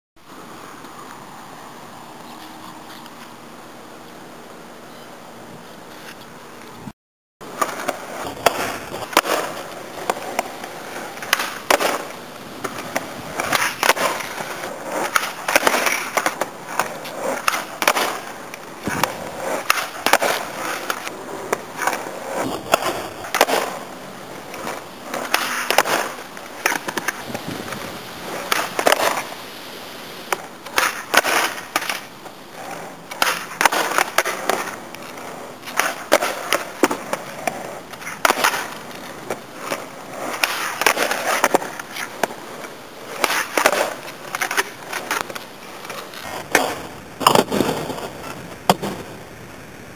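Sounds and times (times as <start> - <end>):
skateboard wheels rolling on concrete: 0.2 - 49.9
skateboard clacking and slapping down: 7.5 - 29.4, 30.3 - 49.2.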